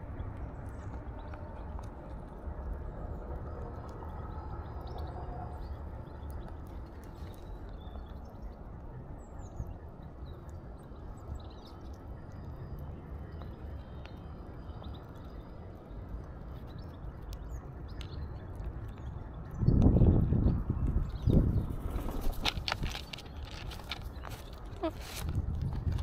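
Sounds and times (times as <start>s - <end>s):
low outdoor rumble: 0.0s - 26.0s
small birds chirping: 0.0s - 26.0s.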